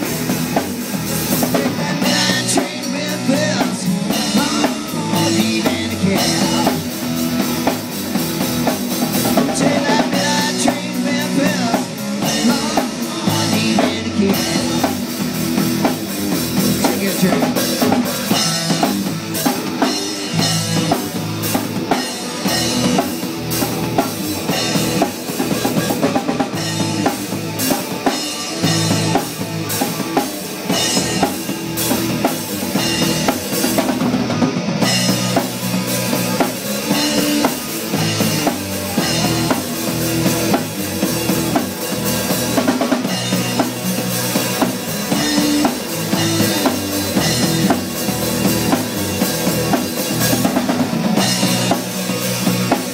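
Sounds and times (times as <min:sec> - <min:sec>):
drum kit beat: 0:00.0 - 0:52.9
electric guitars: 0:00.0 - 0:52.9.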